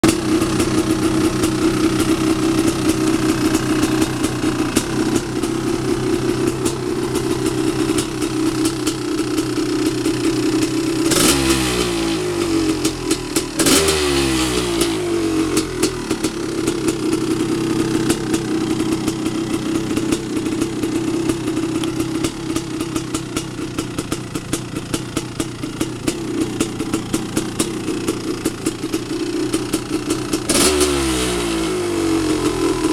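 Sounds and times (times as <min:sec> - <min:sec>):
two-stroke engine idling and revving: 0:00.0 - 0:32.9.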